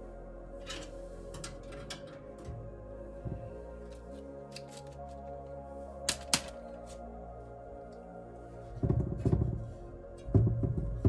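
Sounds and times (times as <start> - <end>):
soft music: 0.0 - 11.0.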